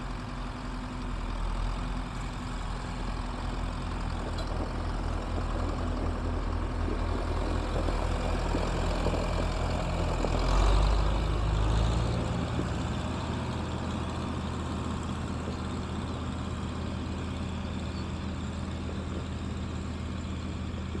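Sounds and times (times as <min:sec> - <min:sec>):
tractor engine driving past: 0:00.0 - 0:21.0.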